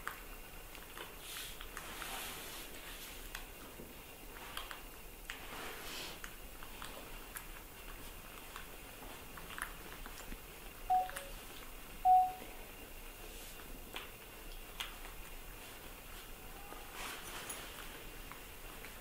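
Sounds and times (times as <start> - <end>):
faint clicks and rustles: 0.0 - 11.7, 13.2 - 19.0.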